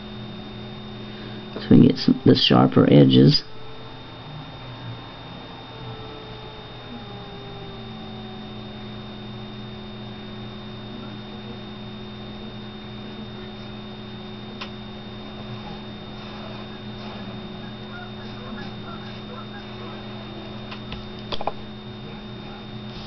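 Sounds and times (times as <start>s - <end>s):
electrical hum with high whine: 0.0s - 23.0s.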